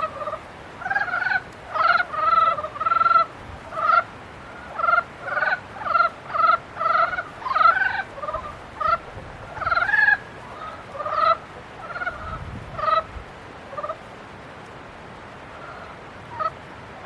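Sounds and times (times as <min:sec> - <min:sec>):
frogs croaking: 0:00.0 - 0:14.1, 0:15.4 - 0:17.0.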